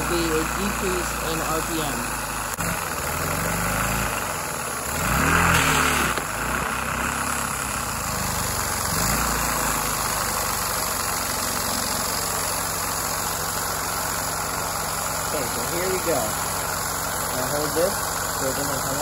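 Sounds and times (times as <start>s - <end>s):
vacuum engine rushing hum: 0.0s - 19.0s.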